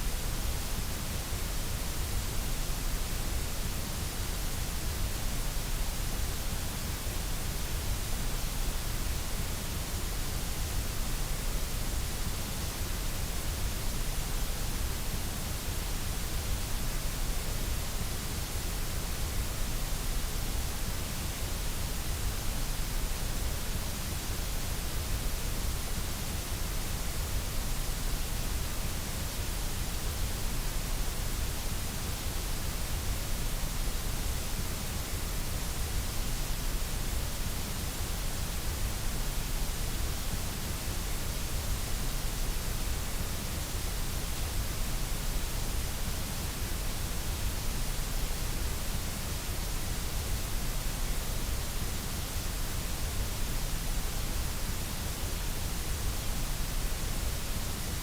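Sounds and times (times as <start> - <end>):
synthetic white noise hiss: 0.0 - 58.0.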